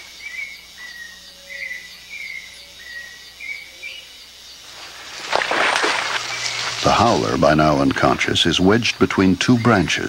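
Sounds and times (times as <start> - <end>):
bird calling: 0.0 - 10.0
forest ambience: 0.0 - 10.0
high insect ticking: 0.0 - 10.0.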